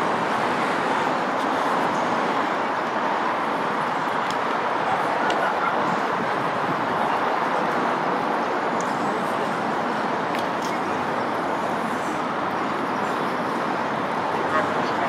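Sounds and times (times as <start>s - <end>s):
traffic noise: 0.0s - 15.0s
crowd hubbub: 1.6s - 15.0s.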